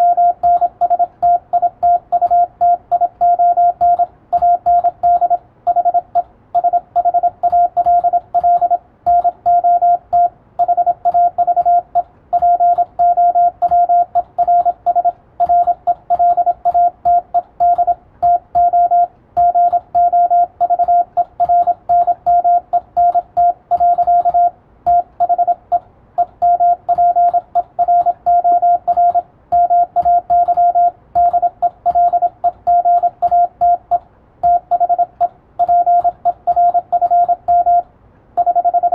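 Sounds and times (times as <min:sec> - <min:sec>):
morse code beeping: 0:00.0 - 0:37.8, 0:38.4 - 0:38.9
computer keyboard typing: 0:00.2 - 0:06.0, 0:06.6 - 0:37.8, 0:38.4 - 0:38.9.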